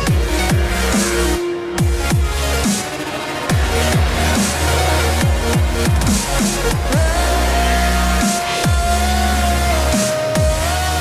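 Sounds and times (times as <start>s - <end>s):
deep bass line: 0.0s - 2.7s, 3.4s - 11.0s
electronic dance music: 0.0s - 11.0s.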